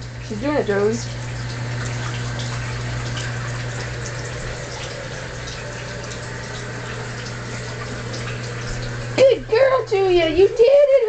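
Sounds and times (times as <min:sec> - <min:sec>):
low even hum: 0:00.0 - 0:11.0.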